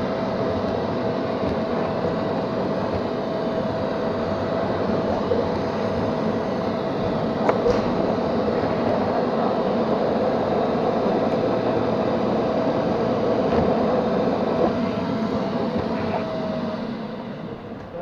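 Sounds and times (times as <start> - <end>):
thin steady whine: 0.0 - 18.0.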